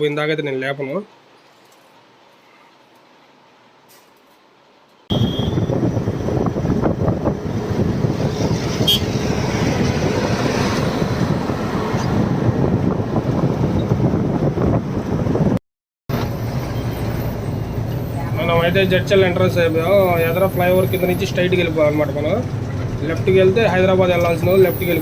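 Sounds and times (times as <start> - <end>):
road and wind noise: 3.0 - 25.0.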